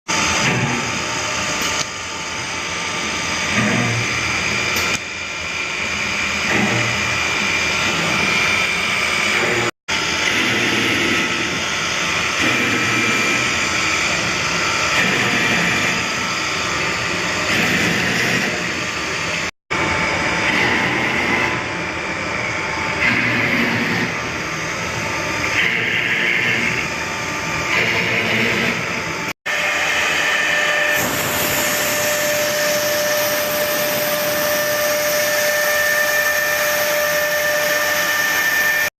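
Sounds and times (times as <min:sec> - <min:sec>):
cnc router whining: 0:00.1 - 0:38.9.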